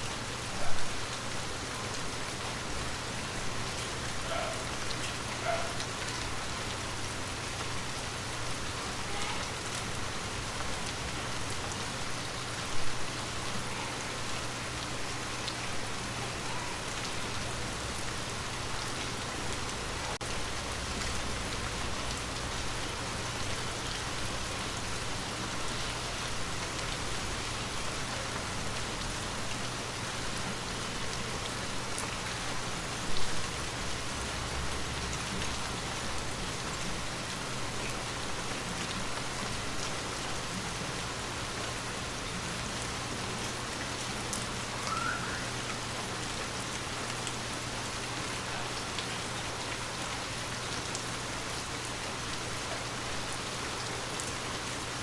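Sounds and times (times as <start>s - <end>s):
rain on a window: 0.0s - 55.0s.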